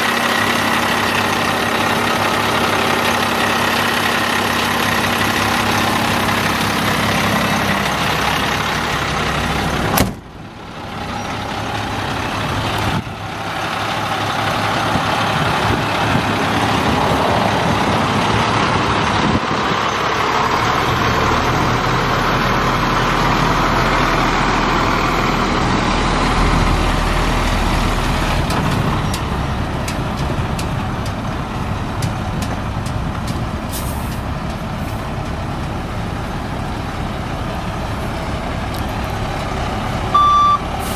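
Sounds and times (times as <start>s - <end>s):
truck diesel engine: 0.0s - 40.9s.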